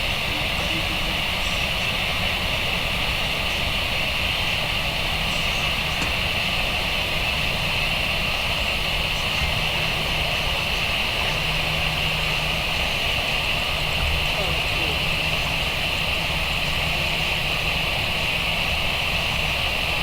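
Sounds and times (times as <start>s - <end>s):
heavy rain hissing: 0.0s - 20.0s
jet engines whining and rumbling: 0.0s - 20.0s.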